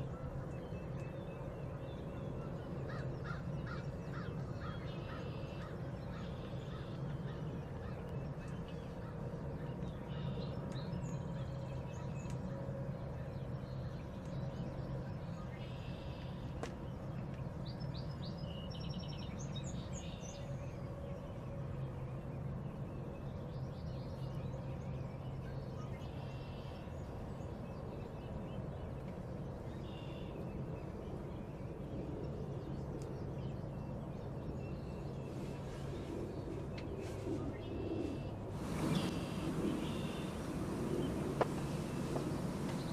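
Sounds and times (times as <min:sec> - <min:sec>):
low outdoor hum: 0:00.0 - 0:42.9
songbirds chirping: 0:00.0 - 0:42.9.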